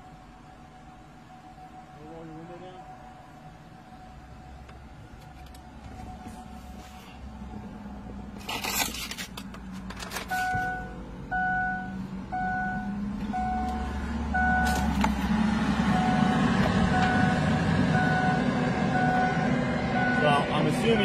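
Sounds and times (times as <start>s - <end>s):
car warning chime beeping: 0.0s - 7.7s, 10.2s - 15.0s, 15.8s - 21.0s
low engine rumble: 0.0s - 21.0s.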